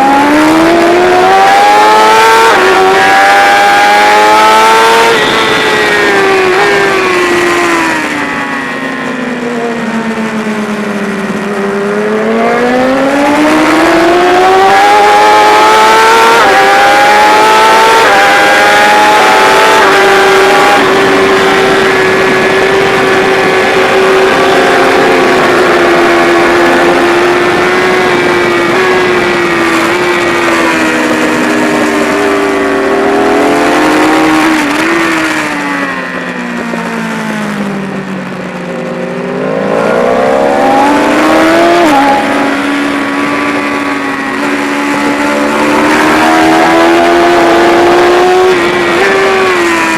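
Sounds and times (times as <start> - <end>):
motorcycle engine at racing speed: 0.0 - 49.9.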